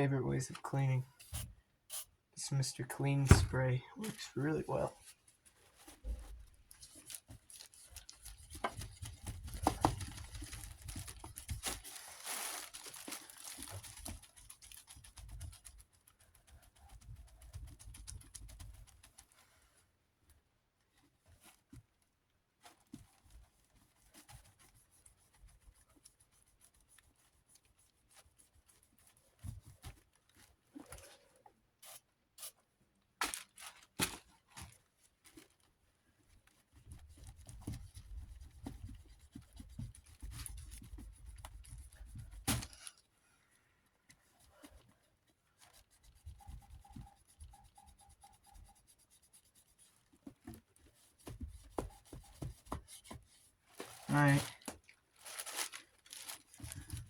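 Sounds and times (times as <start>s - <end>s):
paper towel scrubbing plastic: 2.7s - 19.9s, 22.6s - 31.2s, 31.8s - 43.0s, 44.2s - 57.0s.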